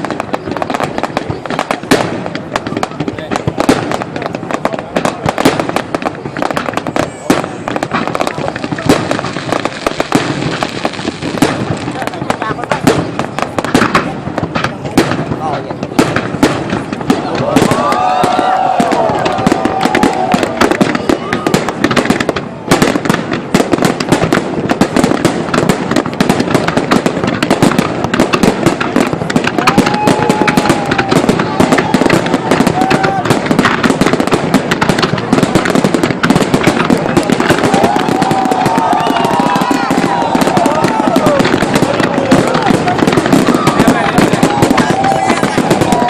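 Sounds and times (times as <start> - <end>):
crowd voices: 0.0 - 46.0
fireworks bursting and crackling: 0.0 - 46.0.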